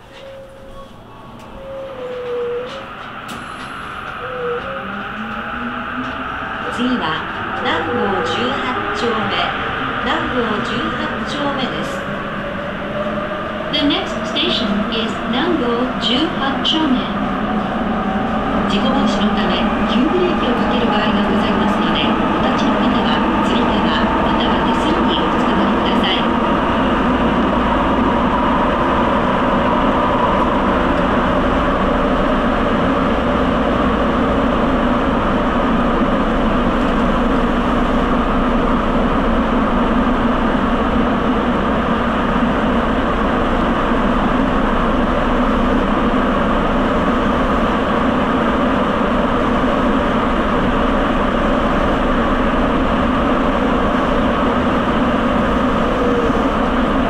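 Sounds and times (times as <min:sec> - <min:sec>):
subway train running in tunnel: 0:00.0 - 0:57.0.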